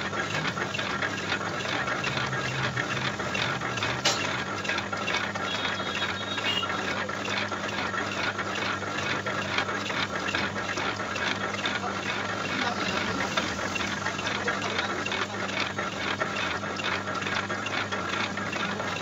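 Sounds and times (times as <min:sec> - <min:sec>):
boring bar cutting clatter: 0:00.0 - 0:19.0
lathe motor hum: 0:00.0 - 0:19.0.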